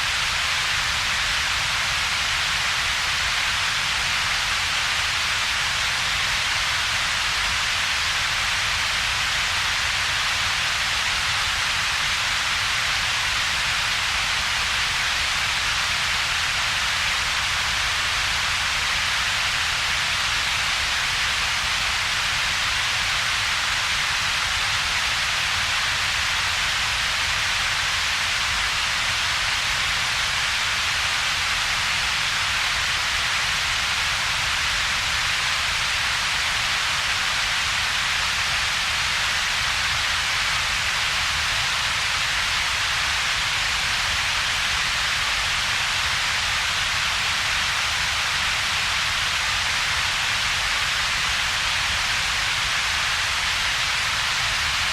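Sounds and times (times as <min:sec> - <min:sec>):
synthetic noise hiss: 0:00.0 - 0:54.9.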